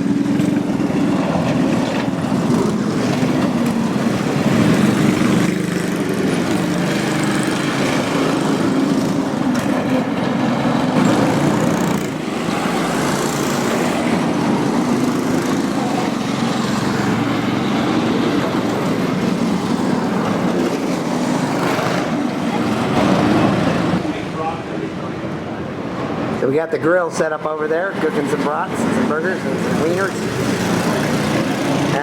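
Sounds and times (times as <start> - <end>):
small engines running steadily: 0.0 - 32.0.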